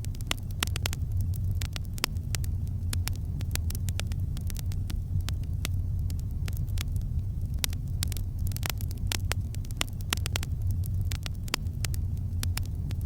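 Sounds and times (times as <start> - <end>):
campfire crackling and popping: 0.0 - 13.0
steady low rumble: 0.0 - 13.0.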